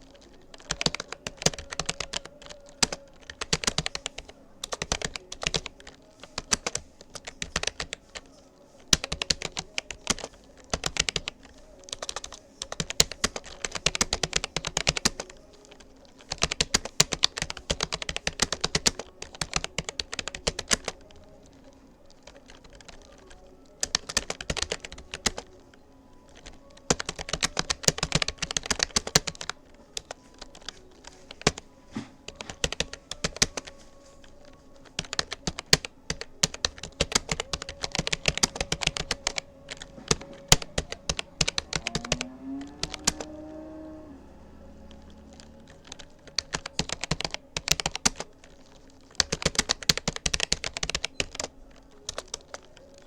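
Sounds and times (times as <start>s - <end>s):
typing on computer keyboard: 0.0s - 53.0s.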